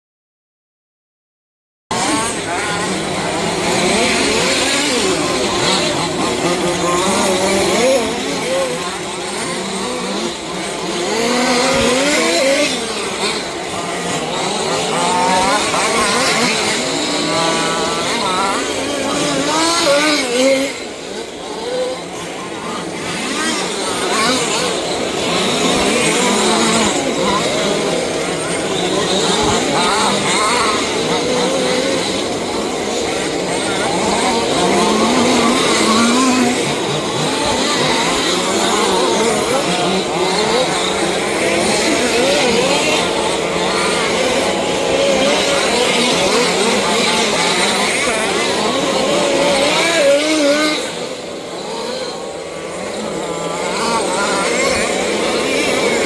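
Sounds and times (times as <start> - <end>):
rc car engines revving: 1.9 - 56.0.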